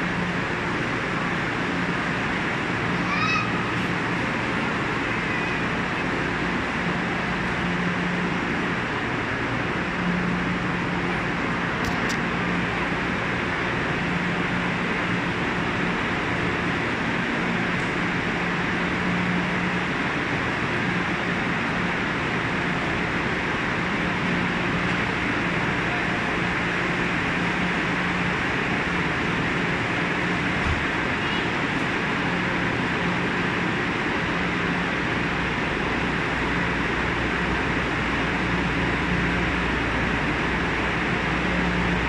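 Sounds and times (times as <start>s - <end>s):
rushing train platform ambience: 0.0s - 42.0s.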